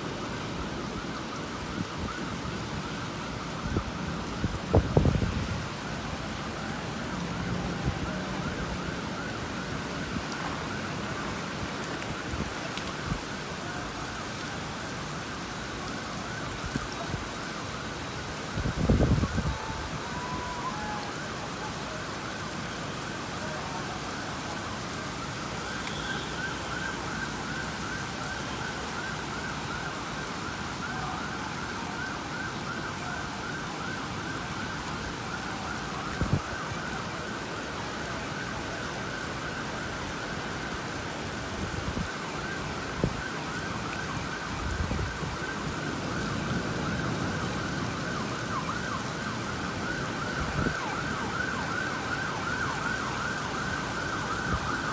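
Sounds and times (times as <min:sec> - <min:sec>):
emergency siren yelping: 0:00.0 - 0:54.9
heavy rain on street: 0:00.0 - 0:54.9.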